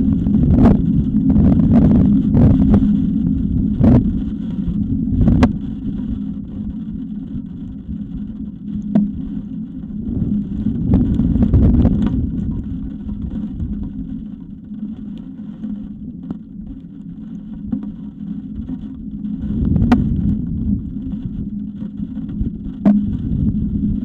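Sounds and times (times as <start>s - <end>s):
wind buffeting microphone: 0.0s - 14.7s, 17.8s - 24.0s
steady low hum: 0.0s - 24.0s.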